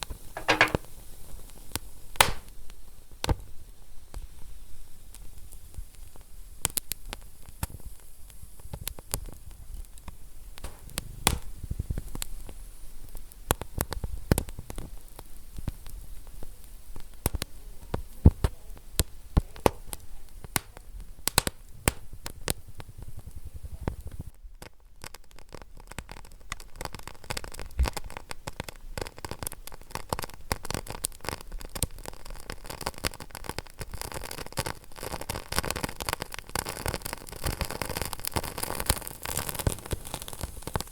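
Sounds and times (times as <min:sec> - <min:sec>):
wood fire crackling: 0:00.0 - 0:03.5, 0:04.1 - 0:40.9
sharp pops of fire: 0:00.4 - 0:01.0, 0:01.7 - 0:03.4, 0:06.6 - 0:16.4, 0:17.0 - 0:40.9.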